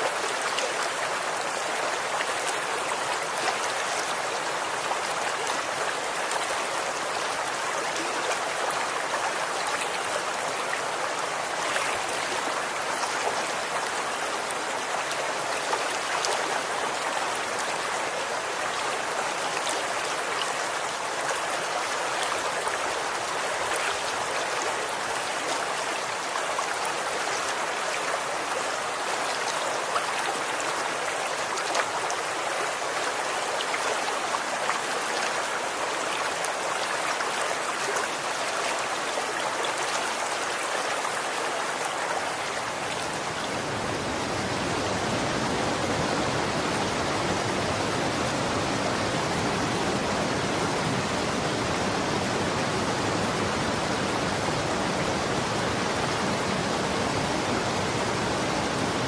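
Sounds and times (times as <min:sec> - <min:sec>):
stream flowing with small splashes: 0:00.0 - 0:59.0.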